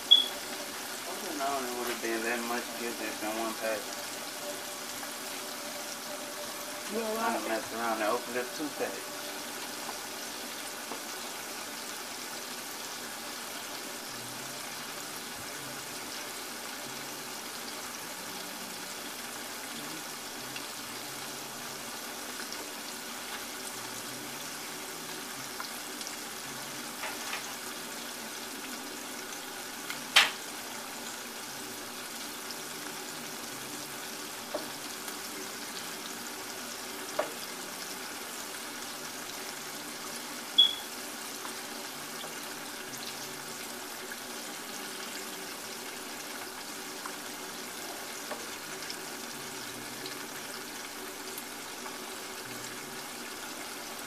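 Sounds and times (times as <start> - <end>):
deep-frying oil sizzling: 0.0 - 54.0.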